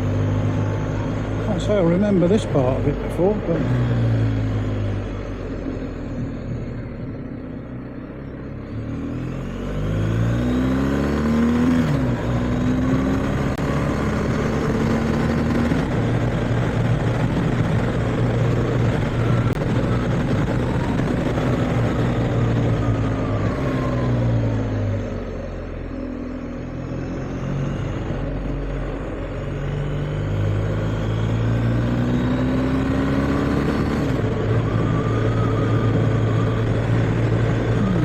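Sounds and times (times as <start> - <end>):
motorcycle engine revving: 0.0 - 6.2, 8.6 - 38.0
road and wind noise: 0.0 - 38.0.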